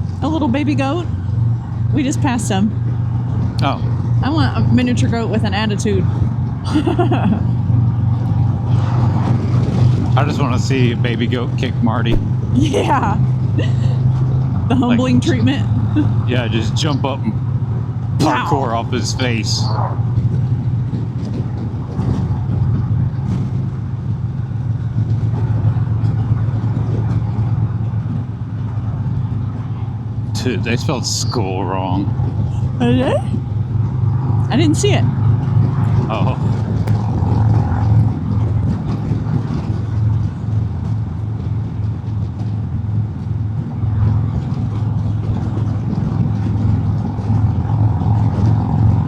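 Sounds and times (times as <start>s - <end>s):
wind rush on microphone: 0.0s - 30.7s, 31.9s - 49.0s
motorcycle engine cruising: 0.0s - 49.0s.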